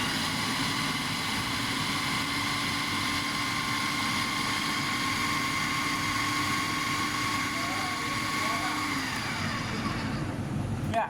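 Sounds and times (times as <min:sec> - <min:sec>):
machine hum with whining tones: 0:00.0 - 0:10.9.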